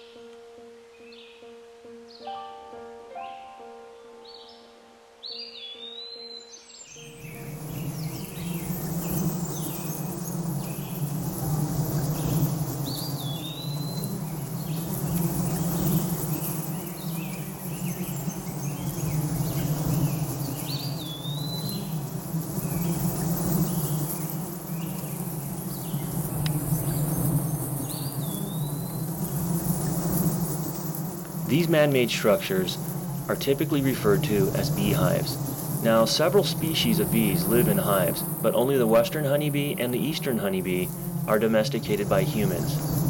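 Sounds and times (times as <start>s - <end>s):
honeybees buzzing: 6.8s - 43.0s.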